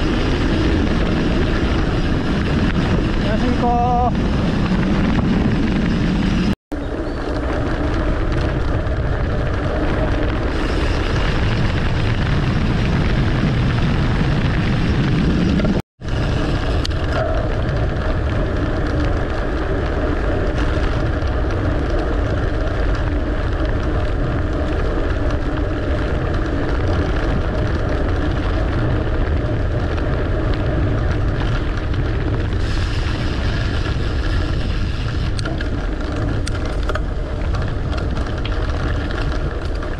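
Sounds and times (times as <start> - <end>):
bike tyres on concrete and dirt: 0.0 - 39.9
wind rushing over microphone: 0.0 - 39.9.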